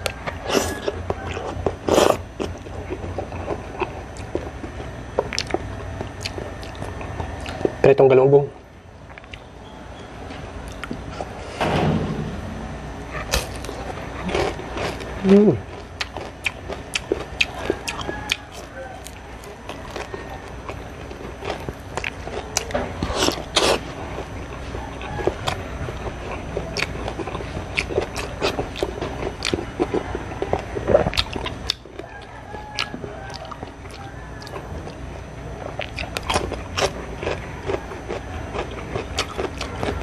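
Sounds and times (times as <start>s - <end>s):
crunching and chewing food: 0.0s - 9.5s, 10.6s - 11.7s, 13.0s - 40.0s.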